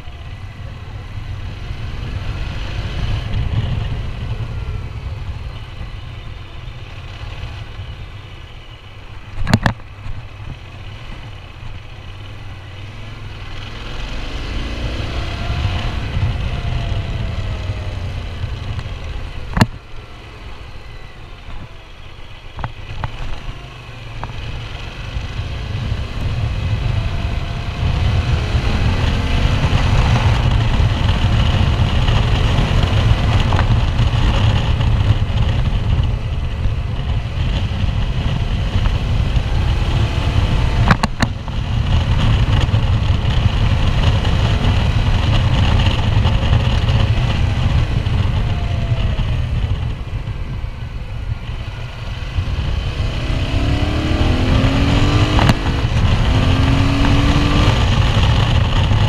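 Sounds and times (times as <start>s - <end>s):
wind rush on microphone: 0.0s - 8.5s, 9.1s - 20.0s, 20.8s - 59.0s
motorcycle engine running: 0.0s - 59.0s.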